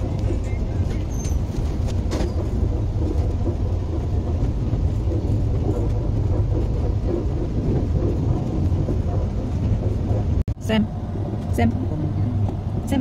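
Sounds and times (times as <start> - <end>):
moving train rumble: 0.0 - 13.0.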